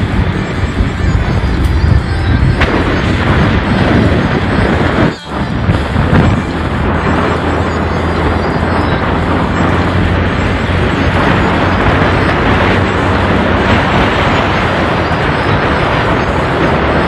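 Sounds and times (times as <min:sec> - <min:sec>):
road and wind noise: 0:00.0 - 0:17.0
vehicle engine hum: 0:00.0 - 0:17.0.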